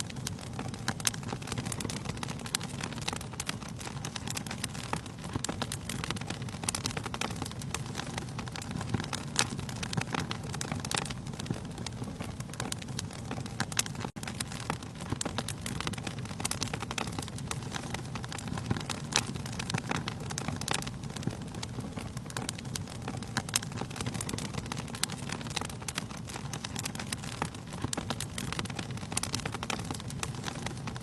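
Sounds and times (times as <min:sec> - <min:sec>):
fire low rumble: 0:00.0 - 0:31.0
logs crackling and popping: 0:00.0 - 0:31.0.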